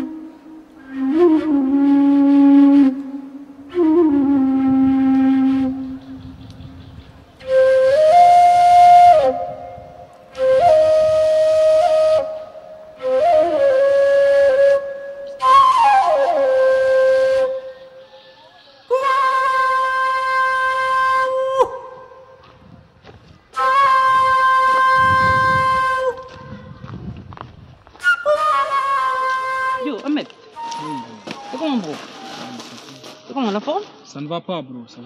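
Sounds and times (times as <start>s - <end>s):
solo flute playing: 0.0s - 6.4s, 7.4s - 22.4s, 23.5s - 26.8s, 28.0s - 32.9s.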